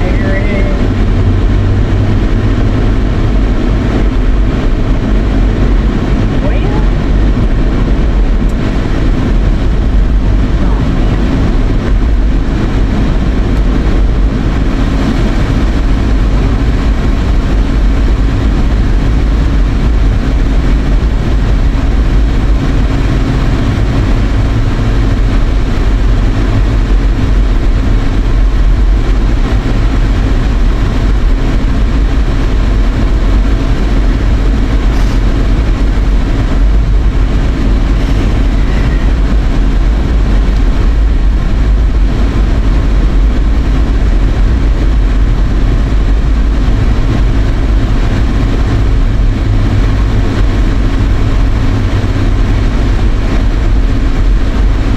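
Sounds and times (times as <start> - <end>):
air-conditioning fan blowing: 0.0 - 54.9
car road and engine noise: 0.0 - 54.9.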